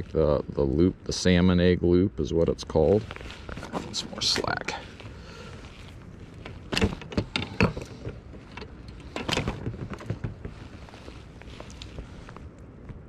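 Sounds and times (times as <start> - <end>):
low steady rumble: 0.0 - 13.0
handling rustles and bumps: 2.4 - 13.0.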